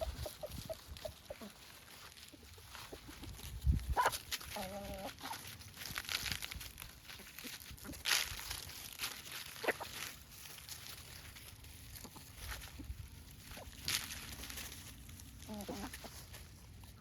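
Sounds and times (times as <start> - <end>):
chickens pecking and rustling: 0.0 - 17.0.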